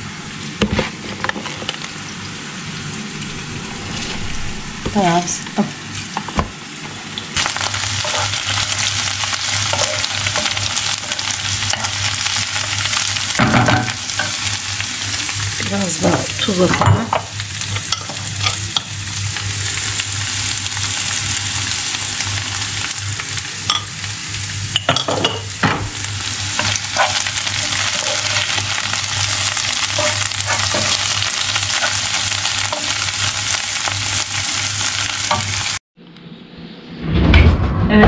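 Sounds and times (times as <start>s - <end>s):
vegetables sizzling in a frying pan: 4.9s - 35.8s.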